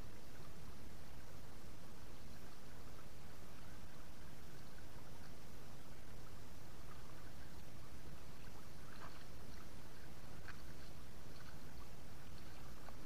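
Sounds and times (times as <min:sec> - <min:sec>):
faint small splashes: 0:02.2 - 0:13.0.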